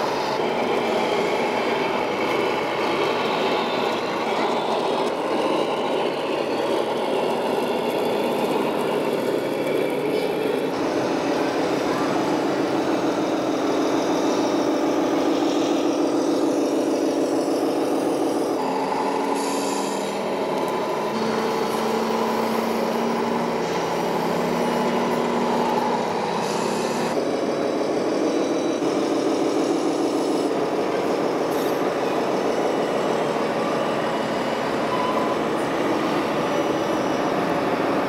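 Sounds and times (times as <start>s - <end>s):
simulated truck engine running: 0.0s - 38.0s.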